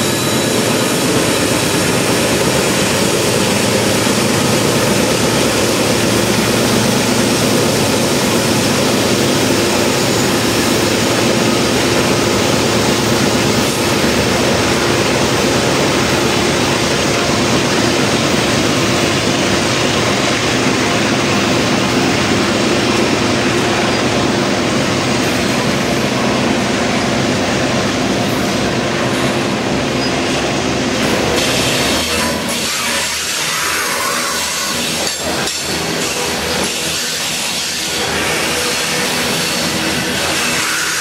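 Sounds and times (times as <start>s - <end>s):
diesel locomotive drone: 0.0s - 41.0s
train wheels on rails: 0.0s - 41.0s.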